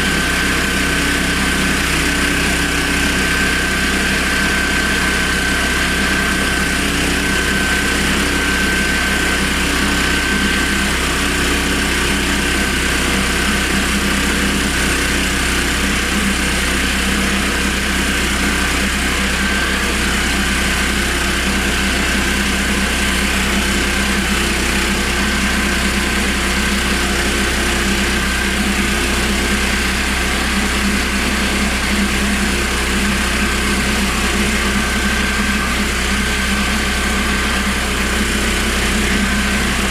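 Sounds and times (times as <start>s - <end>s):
petrol engine running: 0.0s - 39.9s.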